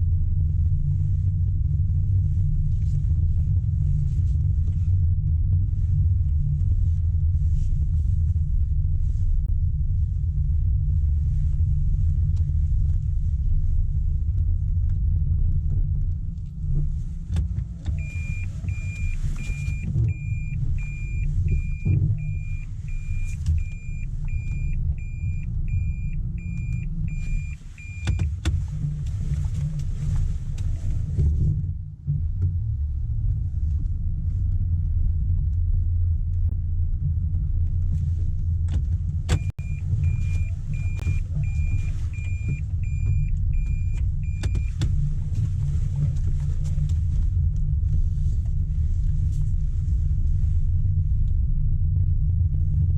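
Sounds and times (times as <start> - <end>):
car cabin engine and road rumble: 0.0 - 52.9.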